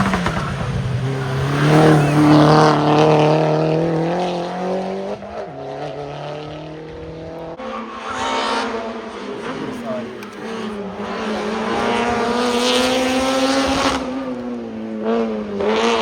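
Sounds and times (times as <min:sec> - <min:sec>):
race car accelerating past: 0:00.0 - 0:16.0.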